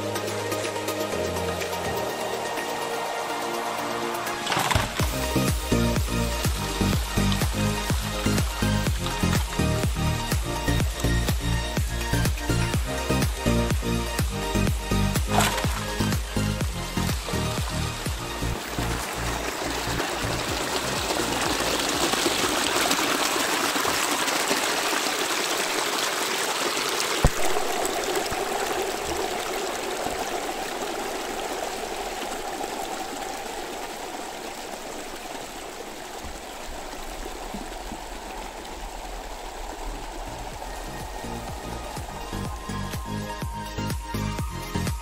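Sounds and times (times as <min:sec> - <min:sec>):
water rushing over rocks: 0:00.0 - 0:45.0.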